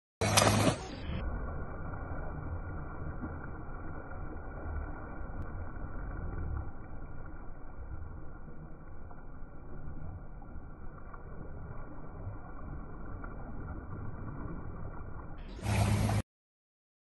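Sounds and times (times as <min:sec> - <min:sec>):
low rumble: 0:00.2 - 0:16.2
sea water splashing: 0:00.2 - 0:16.2.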